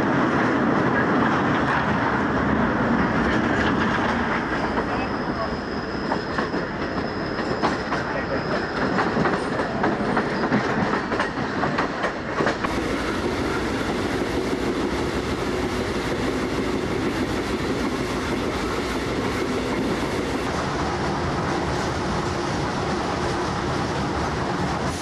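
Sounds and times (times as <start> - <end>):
train carriage rumble and rattle: 0.0 - 25.0.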